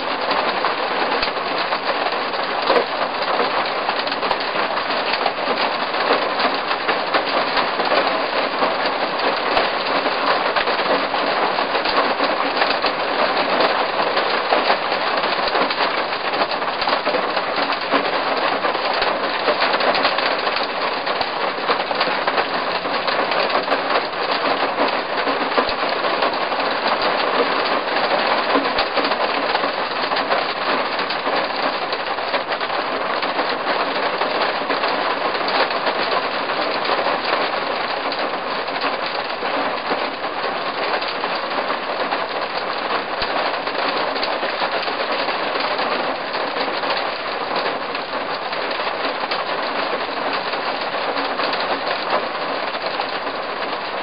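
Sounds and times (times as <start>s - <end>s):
rain on a vehicle roof: 0.0s - 54.0s.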